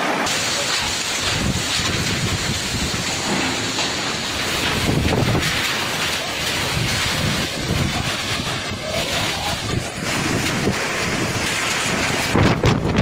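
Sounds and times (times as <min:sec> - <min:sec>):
strong wind buffeting microphone: 0:00.9 - 0:13.0.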